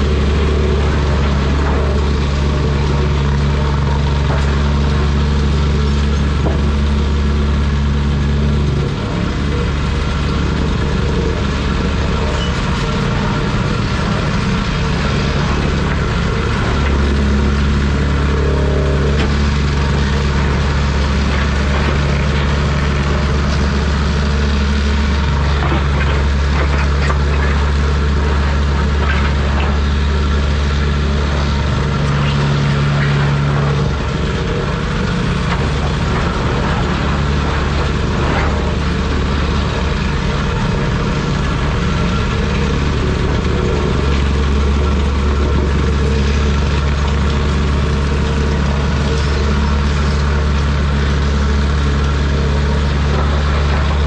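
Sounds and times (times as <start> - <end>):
excavator diesel engine droning: 0.0 - 54.0.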